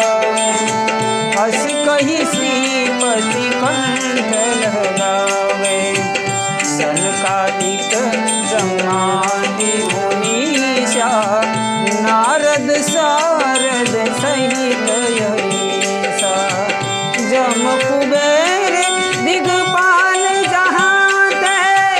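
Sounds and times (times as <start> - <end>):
gliding melody line: 0.0 - 21.9
harmonium chords: 0.0 - 21.9
tabla rhythm: 0.0 - 21.9.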